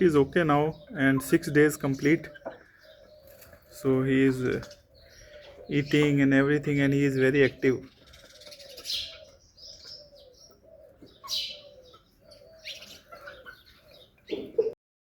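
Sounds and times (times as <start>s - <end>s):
pigeon cooing: 0.0s - 14.8s.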